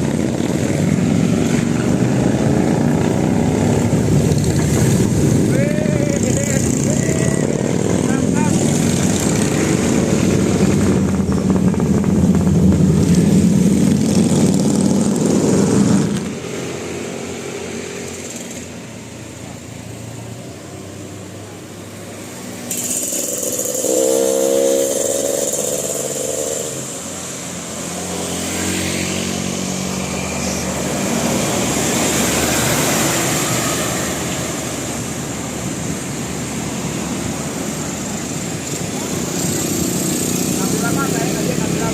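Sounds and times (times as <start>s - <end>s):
vehicle engines passing: 0.0s - 41.9s.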